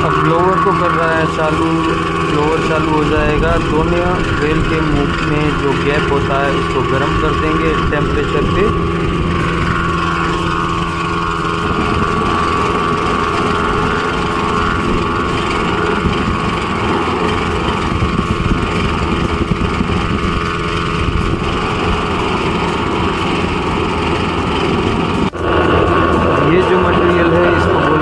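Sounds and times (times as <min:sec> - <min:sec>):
engine-like mechanical running noise: 0:00.0 - 0:28.0.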